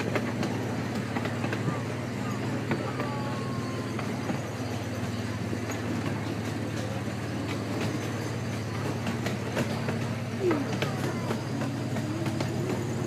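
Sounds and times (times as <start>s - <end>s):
miniature train humming: 0.0s - 13.0s
wheels clicking over rails: 0.0s - 13.0s.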